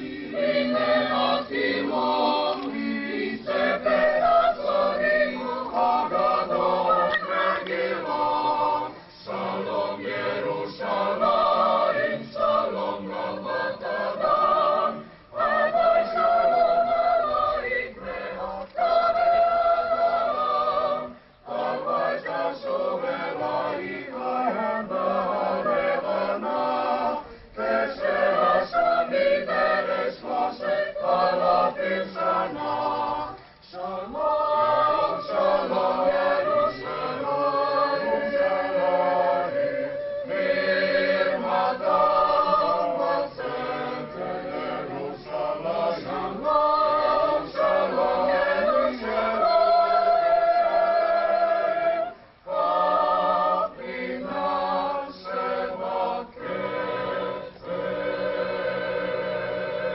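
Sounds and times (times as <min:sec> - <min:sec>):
mixed choir singing: 0:00.0 - 0:59.9.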